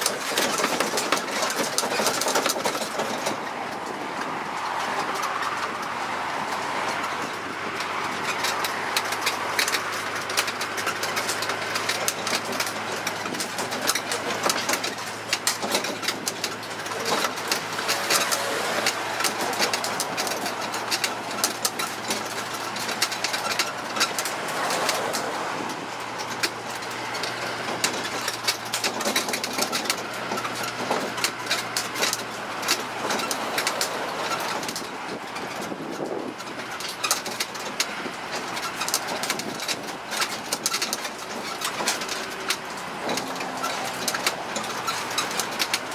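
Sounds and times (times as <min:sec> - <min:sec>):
carriage rattling and clicking: 0:00.0 - 0:45.9
road train engine humming: 0:00.0 - 0:45.9.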